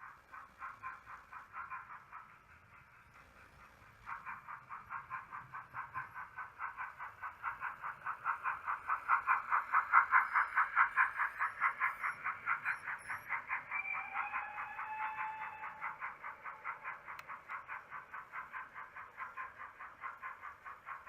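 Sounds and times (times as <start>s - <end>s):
model steam locomotive chuffs: 0.0s - 21.0s.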